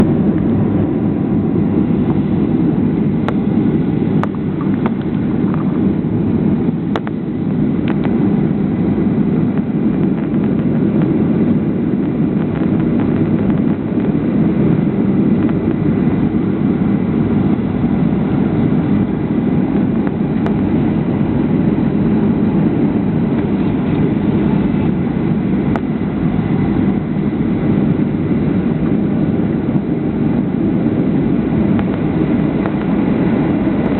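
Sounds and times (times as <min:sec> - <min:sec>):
jet engine cabin rumble: 0:00.0 - 0:33.9.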